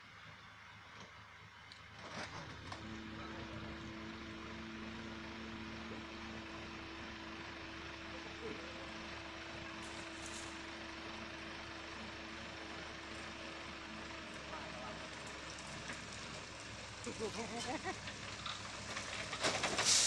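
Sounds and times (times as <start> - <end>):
dump truck engine running: 0.1 - 20.0.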